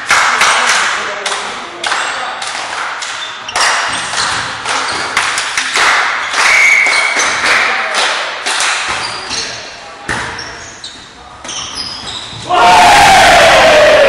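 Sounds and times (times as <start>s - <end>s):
thuds and taps in sports hall: 0.0s - 12.5s.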